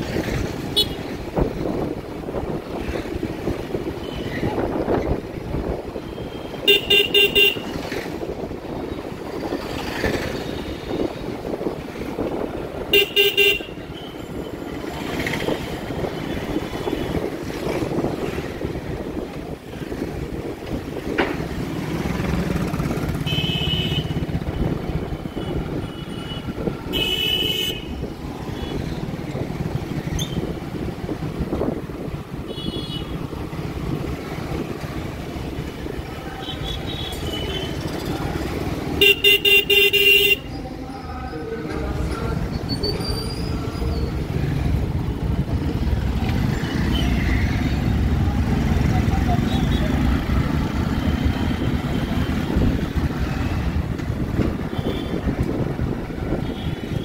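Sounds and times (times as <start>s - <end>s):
city street traffic: 0.0s - 57.0s
motorcycle engine and road noise: 0.0s - 57.0s.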